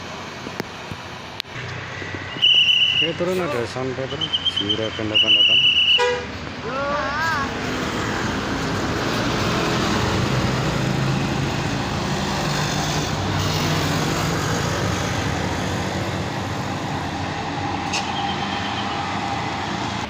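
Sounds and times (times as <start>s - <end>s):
bus diesel engine running: 0.0s - 5.2s, 6.0s - 20.0s
tyre and road noise: 0.0s - 20.0s.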